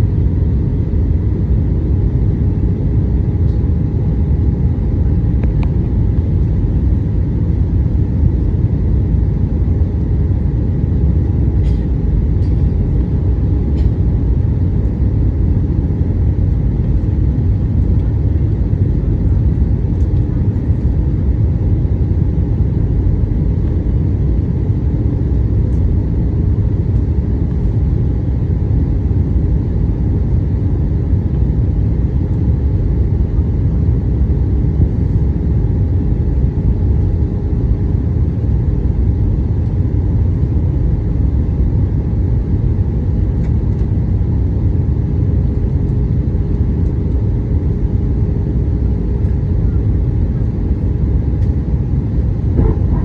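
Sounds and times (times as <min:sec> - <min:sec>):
airliner cabin engine rumble: 0:00.0 - 0:53.0
faint steady hums: 0:00.0 - 0:53.0.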